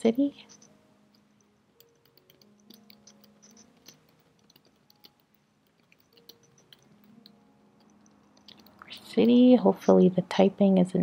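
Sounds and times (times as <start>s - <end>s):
typing on computer keyboard: 0.4s - 9.4s.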